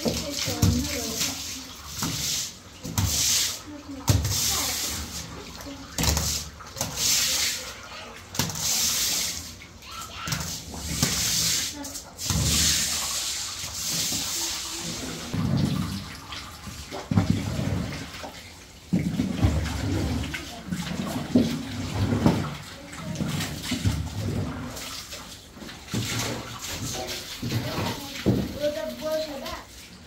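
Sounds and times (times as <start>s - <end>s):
broom scrubbing wet floor: 0.0s - 30.0s
water gushing from hose: 0.0s - 30.0s.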